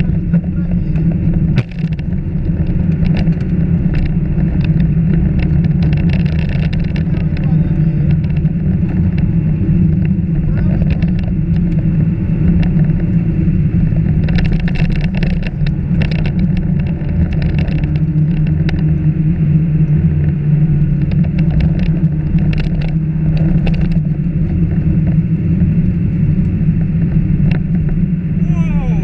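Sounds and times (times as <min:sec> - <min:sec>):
car engine drone: 0:00.0 - 0:29.0.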